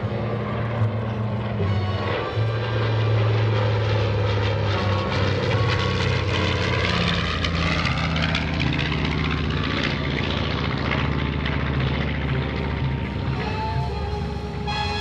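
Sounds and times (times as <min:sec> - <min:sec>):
propeller plane flying past: 0:00.0 - 0:15.0.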